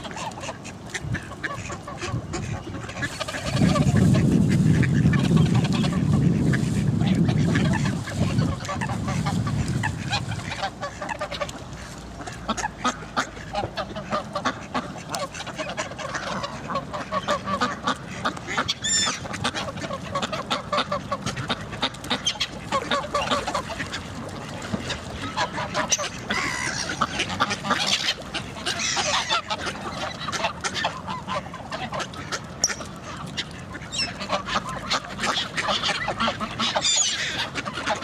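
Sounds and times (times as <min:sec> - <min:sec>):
geese honking: 0:00.0 - 0:11.6, 0:12.2 - 0:38.0
ducks quacking: 0:00.0 - 0:38.0.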